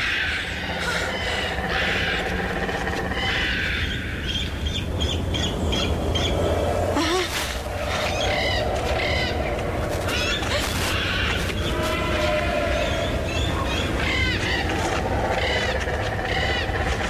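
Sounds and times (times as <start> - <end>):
birds chirping: 0.0 - 17.0
steady outdoor background: 0.0 - 17.0.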